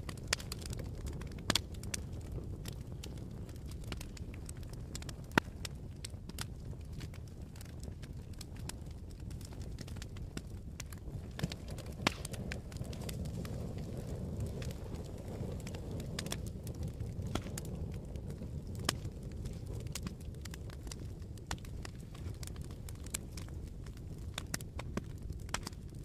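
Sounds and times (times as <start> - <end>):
fire crackles and pops: 0.0 - 26.0
fire flames rumbling: 0.0 - 26.0.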